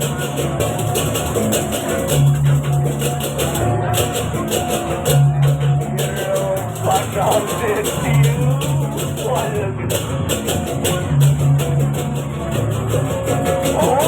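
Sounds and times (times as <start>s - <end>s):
bronze metallophones: 0.0s - 14.0s
drums: 0.0s - 14.0s.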